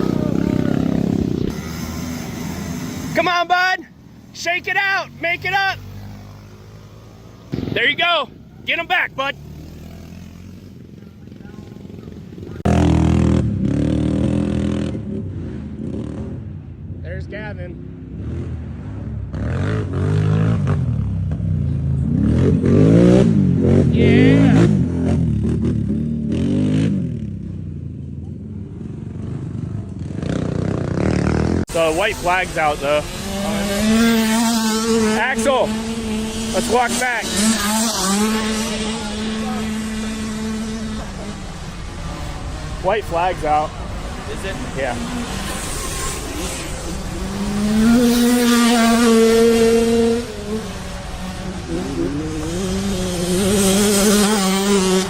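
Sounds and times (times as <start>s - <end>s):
race engines revving: 0.0s - 16.5s, 17.1s - 27.4s, 29.2s - 55.0s.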